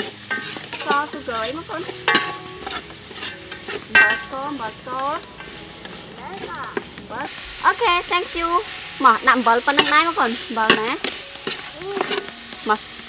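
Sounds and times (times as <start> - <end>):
ladle scraping metal pot: 0.0 - 12.3.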